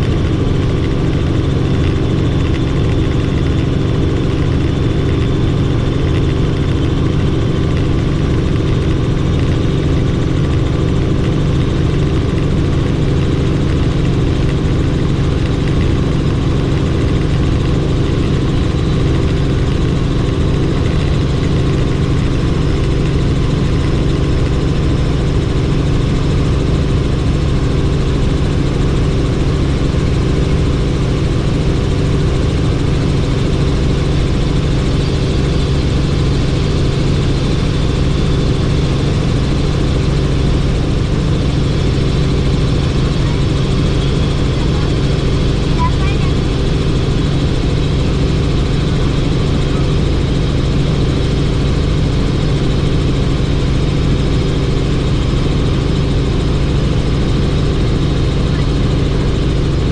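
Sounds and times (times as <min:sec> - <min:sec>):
helicopter rotor drone: 0:00.0 - 0:59.9.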